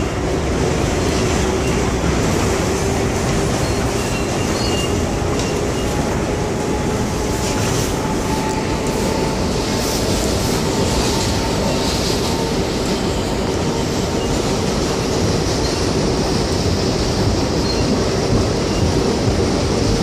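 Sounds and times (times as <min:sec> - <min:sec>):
subway train wheels rumbling on rails: 0:00.0 - 0:20.0.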